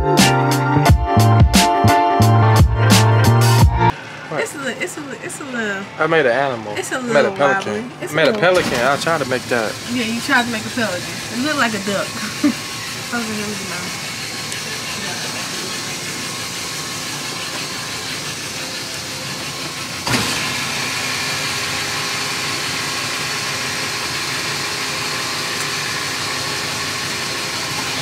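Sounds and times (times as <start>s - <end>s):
ice cream machine motor hum: 3.9s - 28.0s.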